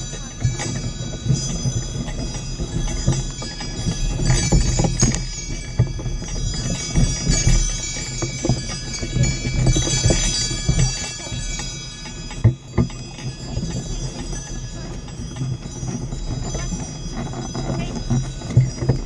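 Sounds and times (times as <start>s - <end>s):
harness bells jingling: 0.0s - 19.0s
pony hoof thuds in snow: 0.0s - 19.0s.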